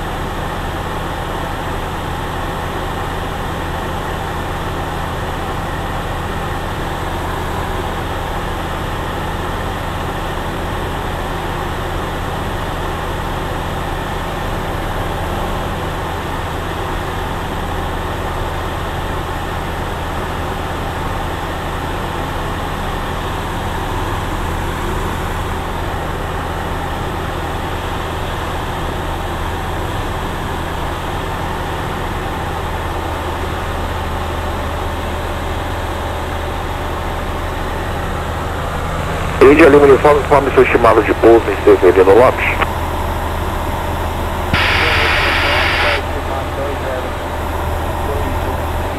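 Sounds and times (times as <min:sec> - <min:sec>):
light aircraft engine drone: 0:00.0 - 0:48.9.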